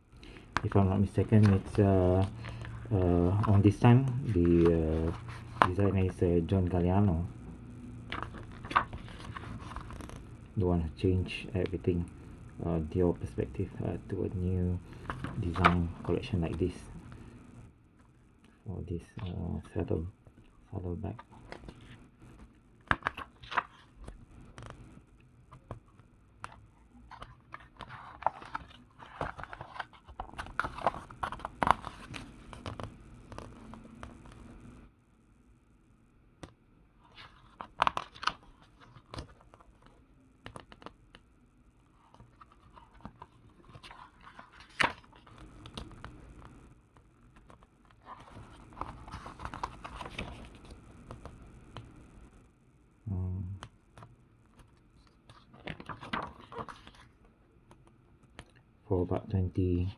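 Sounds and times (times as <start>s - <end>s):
catalogue pages rustling: 0.2s - 7.2s, 8.1s - 11.8s, 13.4s - 17.5s, 19.0s - 24.9s, 25.5s - 34.5s, 37.0s - 41.0s, 41.9s - 46.7s, 47.3s - 51.9s, 53.9s - 59.2s.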